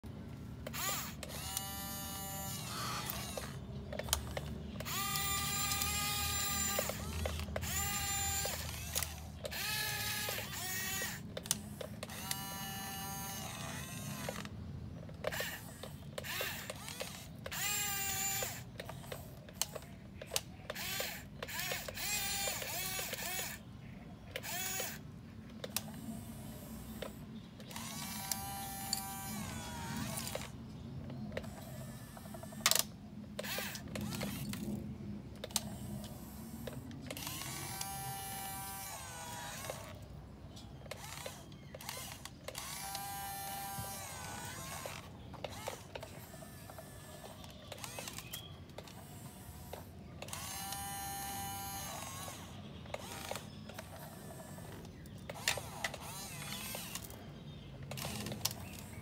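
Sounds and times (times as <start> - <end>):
toy excavator motors whining: 0.0 - 59.0.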